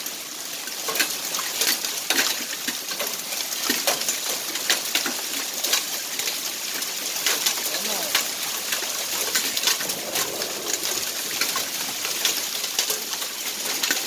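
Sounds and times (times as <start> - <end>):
hiss of falling rain: 0.0 - 14.0
hailstones pelting concrete and bins: 0.1 - 14.0.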